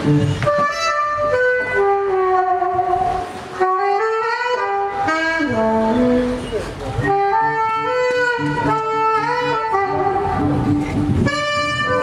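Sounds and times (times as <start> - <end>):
saxophone playing slow melody: 0.0 - 12.0.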